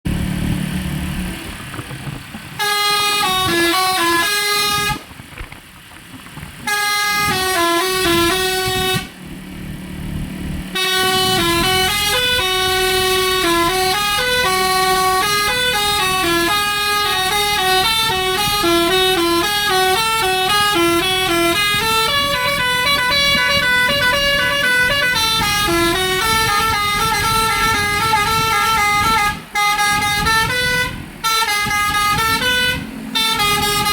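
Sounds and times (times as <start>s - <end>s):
multi-tone air horn melody: 2.6s - 5.1s, 6.6s - 9.2s, 10.7s - 33.9s.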